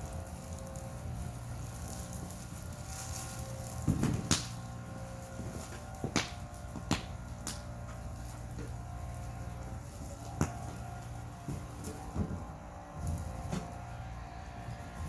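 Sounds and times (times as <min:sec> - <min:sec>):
fire cracks and knocks: 0:00.0 - 0:15.0
wood fire rumbling: 0:00.0 - 0:15.0.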